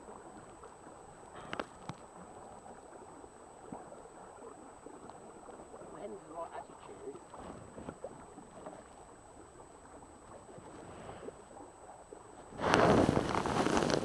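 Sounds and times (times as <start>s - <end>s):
faint wind: 0.0s - 14.0s
water noise: 0.0s - 14.0s.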